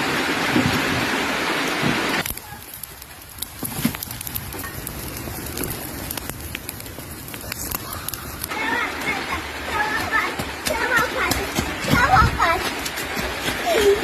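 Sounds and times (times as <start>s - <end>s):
bonfire crackling and popping: 0.0s - 14.0s
heavy rain hissing: 0.0s - 14.0s.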